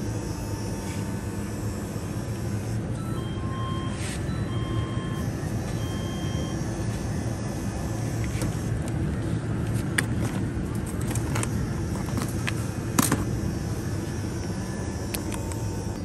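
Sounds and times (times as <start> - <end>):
refrigerated display case humming: 0.0 - 16.0
store ambience: 0.0 - 16.0.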